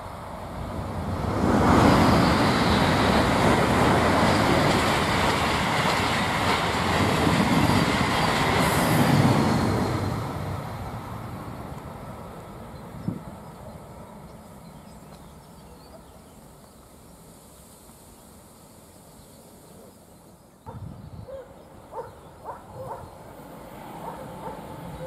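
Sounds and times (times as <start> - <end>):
trains passing at speed: 0.0 - 25.0.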